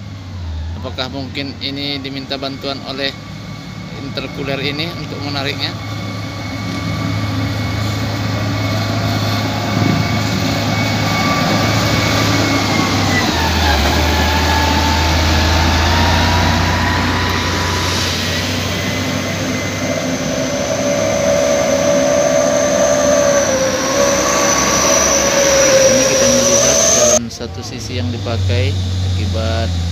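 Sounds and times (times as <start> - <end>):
high steady whine: 0.0 - 27.9
diesel engine droning: 0.0 - 29.9.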